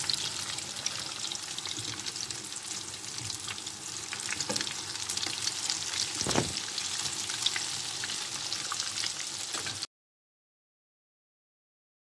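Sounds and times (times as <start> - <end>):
fritters sizzling in oil: 0.0 - 9.9.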